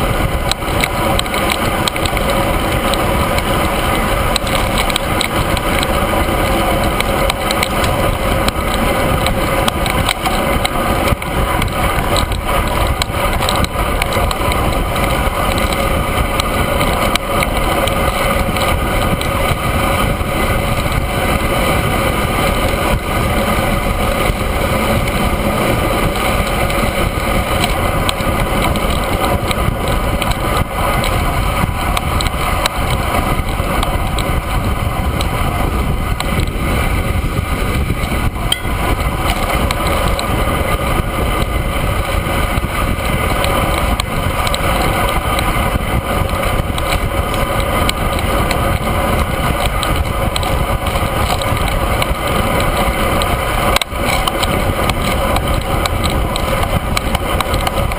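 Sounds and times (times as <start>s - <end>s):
bicycle tyre hum on asphalt: 0.0s - 57.9s
wind buffeting microphone: 0.0s - 57.9s.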